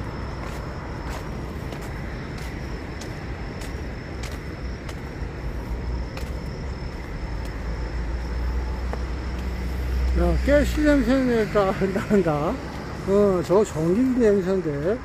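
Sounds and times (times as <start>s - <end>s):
footsteps on pavement: 0.0s - 15.0s
road traffic rumble: 0.0s - 15.0s.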